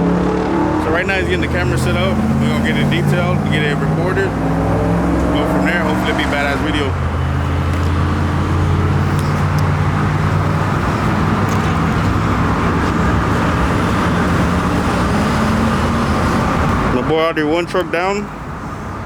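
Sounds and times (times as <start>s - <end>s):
low engine hum: 0.0s - 17.1s
road noise: 0.0s - 19.0s.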